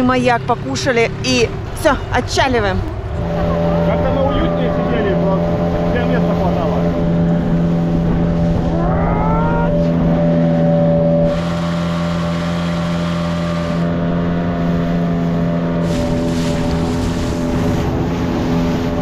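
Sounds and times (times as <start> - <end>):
motorboat engine running: 0.0 - 19.0.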